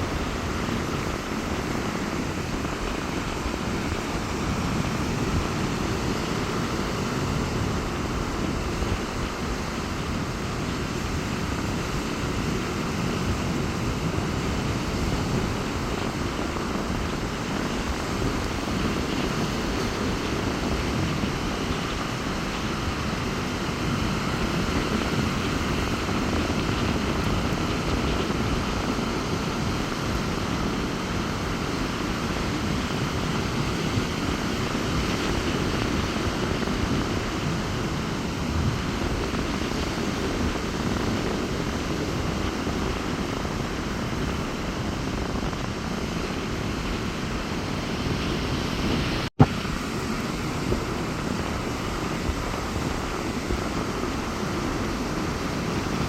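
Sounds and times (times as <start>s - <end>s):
strong wind: 0.0s - 56.0s
surf breaking on beach: 0.0s - 56.0s.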